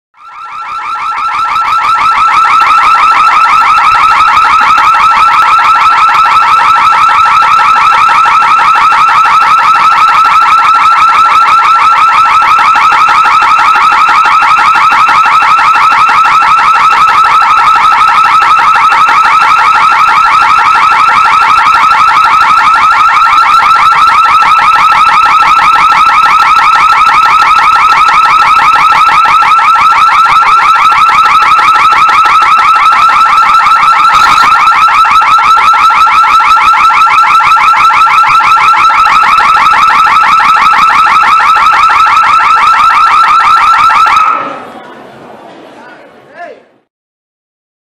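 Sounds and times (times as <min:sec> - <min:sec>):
security alarm siren warbling: 0:00.2 - 0:44.7.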